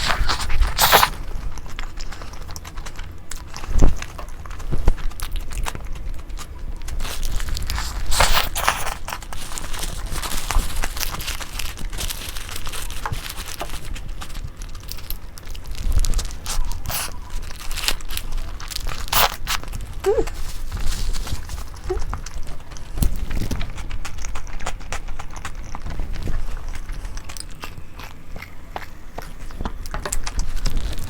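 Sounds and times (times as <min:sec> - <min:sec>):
crinkling rustles: 0:00.0 - 0:31.0
crunching and chewing food: 0:00.0 - 0:31.0.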